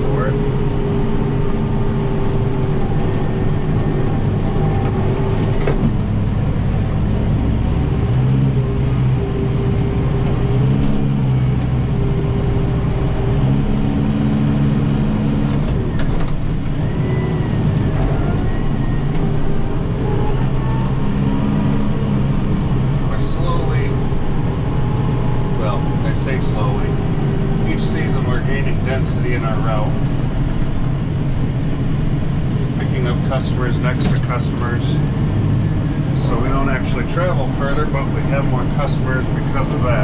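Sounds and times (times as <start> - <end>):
tractor diesel engine under load: 0.0 - 40.0.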